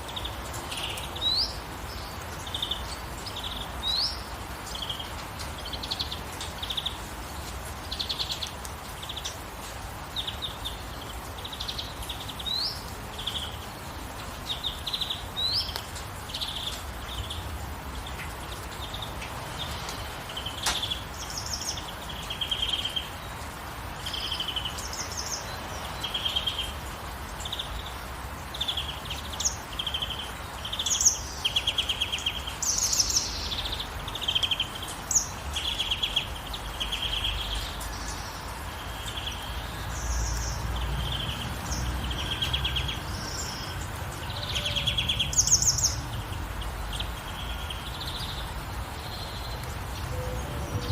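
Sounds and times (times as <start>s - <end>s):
gentle rain hissing: 0.0s - 50.9s
songbirds chirping and trilling: 0.0s - 50.9s.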